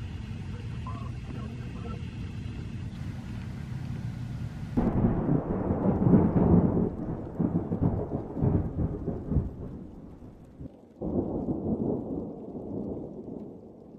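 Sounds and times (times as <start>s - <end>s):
thunder rumbling and crackling: 0.0s - 4.0s, 4.7s - 13.9s.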